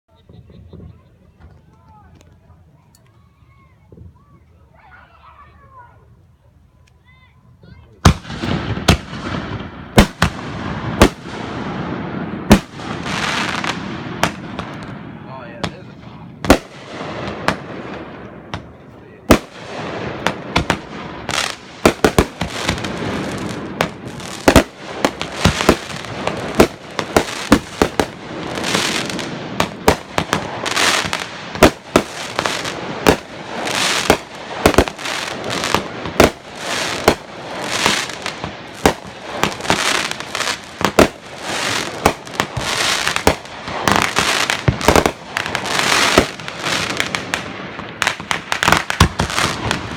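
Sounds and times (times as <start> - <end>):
fireworks crackling and hissing: 0.1 - 49.9
fireworks bangs: 8.0 - 49.9.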